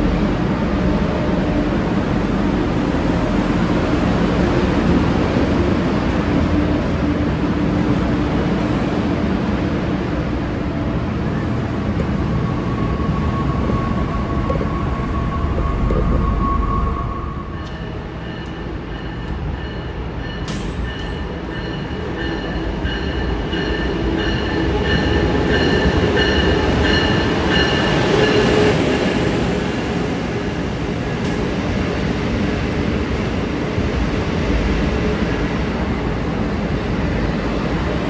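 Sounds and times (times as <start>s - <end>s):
passenger train rumbling: 0.0s - 38.0s.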